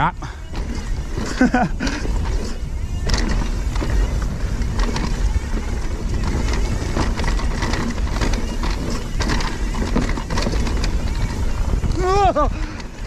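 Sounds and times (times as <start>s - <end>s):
bike knocks and rattles: 0.0s - 13.0s
tyres on dirt and leaves: 0.0s - 13.0s
wind rumble on microphone: 0.0s - 13.0s.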